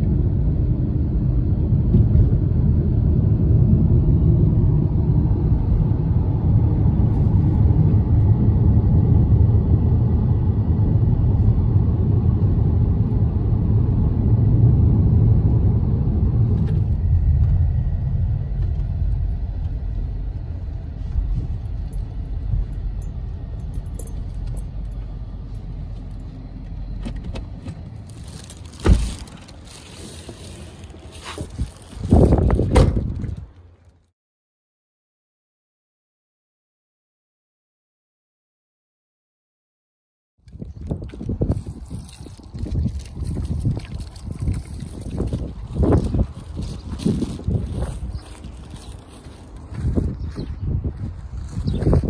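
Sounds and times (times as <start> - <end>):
car engine and road rumble: 0.0 - 34.1, 40.4 - 52.0.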